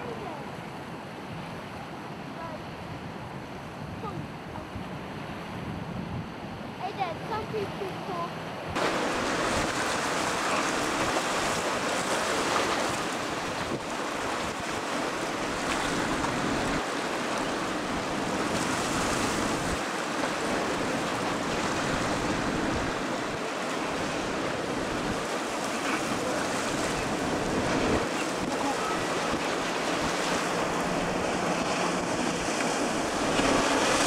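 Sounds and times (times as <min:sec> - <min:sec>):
waves breaking: 0:00.0 - 0:34.0
wind buffeting microphone: 0:02.7 - 0:34.0.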